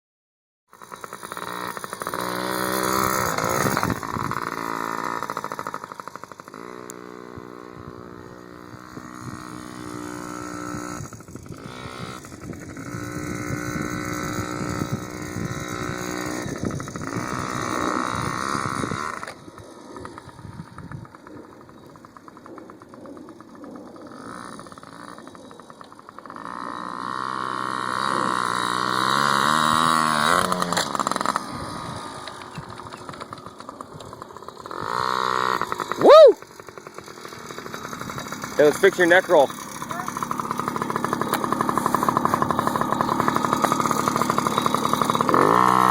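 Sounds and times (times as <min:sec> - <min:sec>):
motorcycle engine revving: 0:00.7 - 0:45.9.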